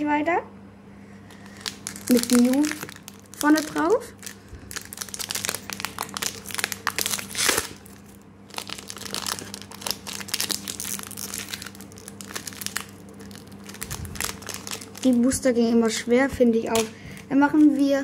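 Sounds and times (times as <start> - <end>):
foil wrapper crinkling: 1.2 - 16.0, 16.7 - 18.0.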